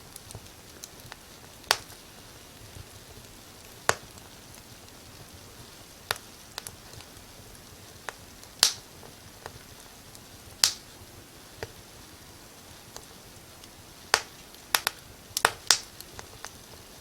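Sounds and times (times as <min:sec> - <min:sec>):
faint steady hiss: 0:00.0 - 0:17.0
firewood crackling and popping: 0:00.0 - 0:17.0.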